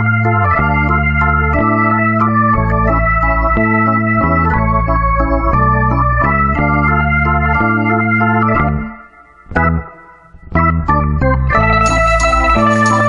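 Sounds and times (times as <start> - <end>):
organ music: 0.0 - 13.0.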